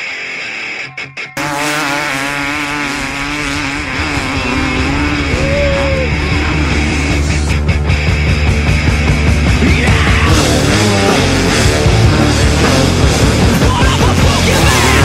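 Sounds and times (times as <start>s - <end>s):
rock music: 0.0s - 15.0s
dirt bike engines revving: 1.4s - 15.0s.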